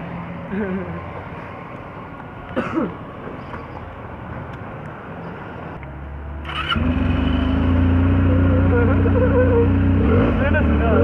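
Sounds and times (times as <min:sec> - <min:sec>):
vehicle engine and traffic: 0:00.0 - 0:11.0.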